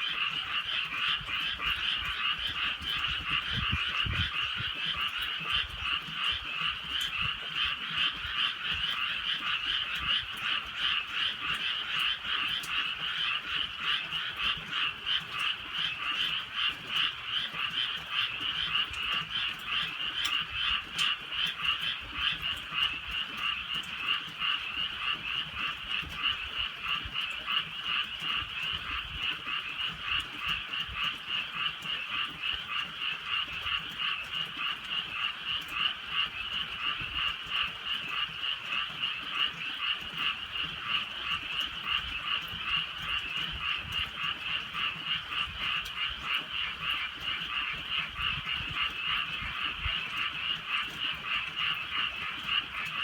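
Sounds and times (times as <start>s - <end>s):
chorus of frogs croaking: 0.0s - 53.0s.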